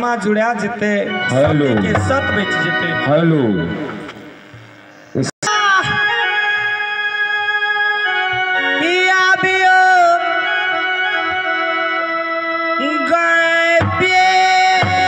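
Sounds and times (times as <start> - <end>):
electronic organ: 0.0 - 15.0.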